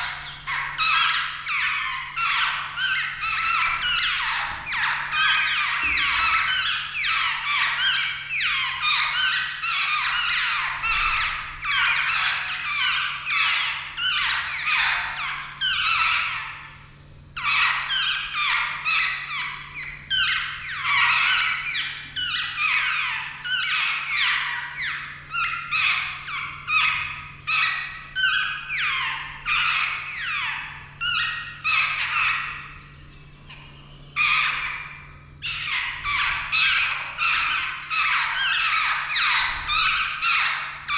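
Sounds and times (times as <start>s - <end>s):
birds calling: 0.0s - 40.9s.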